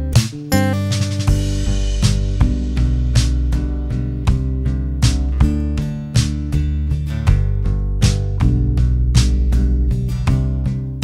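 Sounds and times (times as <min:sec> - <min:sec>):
strummed guitar chords: 0:00.0 - 0:11.0
steady drum beat: 0:00.1 - 0:11.0.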